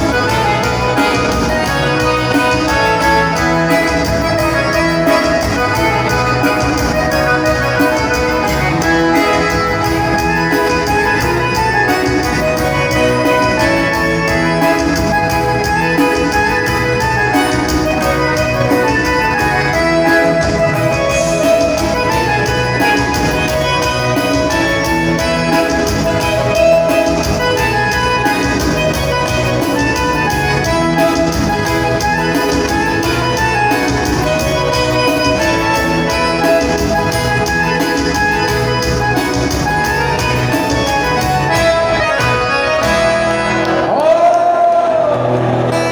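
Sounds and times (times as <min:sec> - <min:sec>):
instrumental band music: 0:00.0 - 0:45.9.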